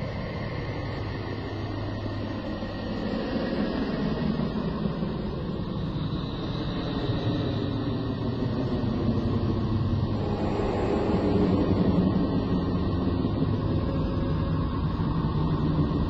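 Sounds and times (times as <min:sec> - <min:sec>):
low rumbling drone: 0:00.0 - 0:16.0.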